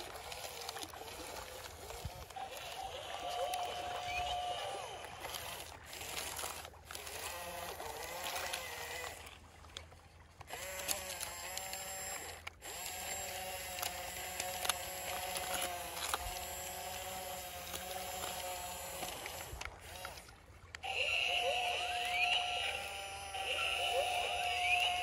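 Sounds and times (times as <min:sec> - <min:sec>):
toy electric motors whirring: 0:00.0 - 0:09.4, 0:10.4 - 0:25.0.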